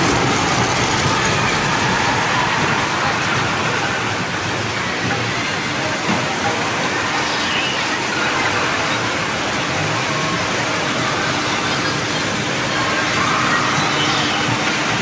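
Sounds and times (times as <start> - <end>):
indoor amusement area din: 0.0 - 15.0
roller coaster car rolling on track: 0.0 - 15.0.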